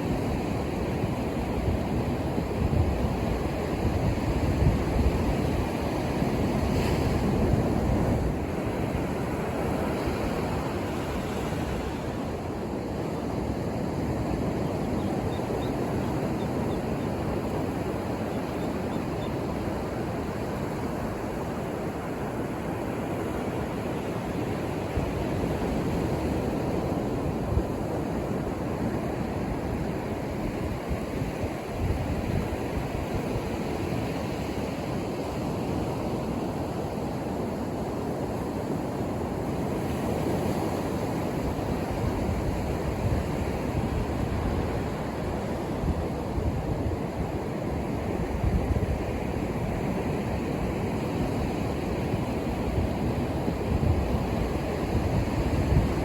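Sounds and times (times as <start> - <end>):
waves breaking on a beach: 0.0 - 56.0
wind on the microphone: 0.0 - 56.0.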